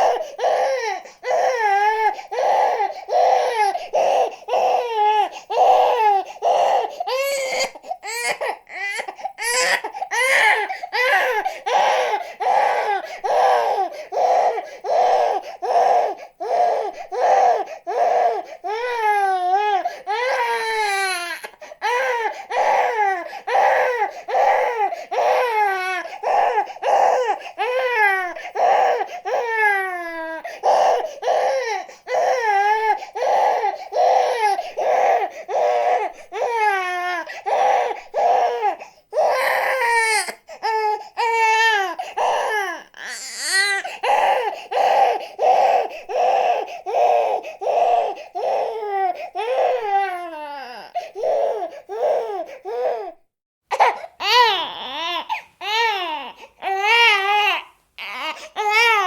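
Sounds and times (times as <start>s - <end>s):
baby crying: 0.0s - 59.0s
baby wailing: 0.0s - 59.0s.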